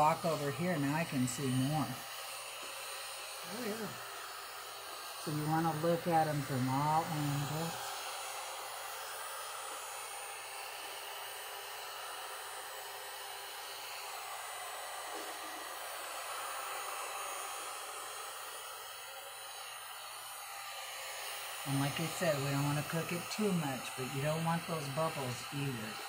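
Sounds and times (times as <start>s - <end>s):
heat gun blowing: 0.0s - 26.0s.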